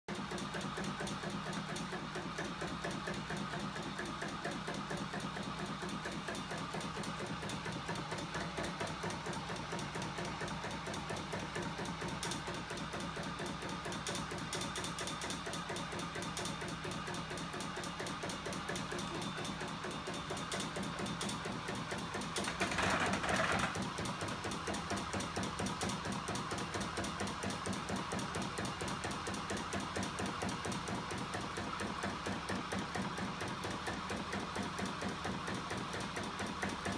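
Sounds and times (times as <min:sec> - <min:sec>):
motor-driven flywheel machine running: 0:00.1 - 0:36.9.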